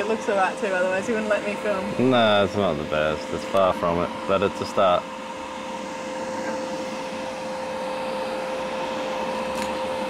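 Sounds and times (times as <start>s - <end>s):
small machine humming and whining: 0.0s - 10.0s.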